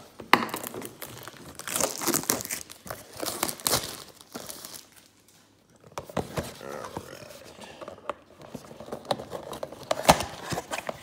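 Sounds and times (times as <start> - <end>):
packaging crinkling and tearing: 0.5 - 11.0.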